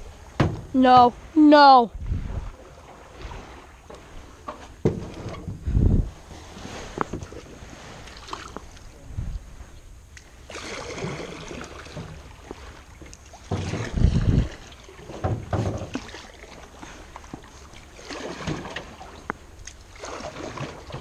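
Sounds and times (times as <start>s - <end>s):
canoe paddle swish and splash: 2.0s - 8.9s, 10.5s - 21.0s.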